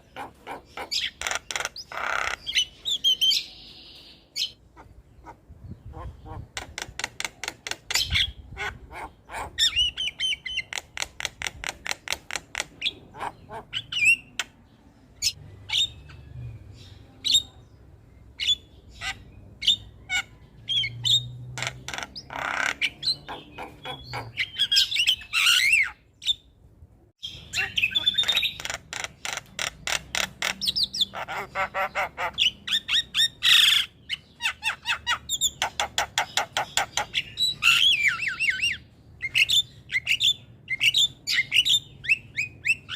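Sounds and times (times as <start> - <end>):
bird squawks: 0.0 - 3.5, 4.4 - 10.8, 12.5 - 14.5, 18.4 - 26.4, 27.2 - 42.9
bird singing with chattering notes: 0.0 - 26.6, 27.2 - 42.9.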